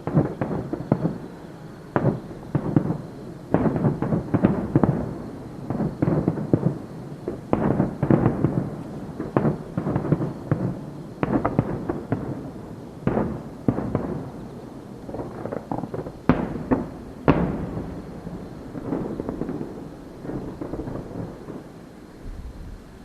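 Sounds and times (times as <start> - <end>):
heavy firework booms: 0.0 - 22.9
fireworks bangs and crackles: 0.0 - 23.0.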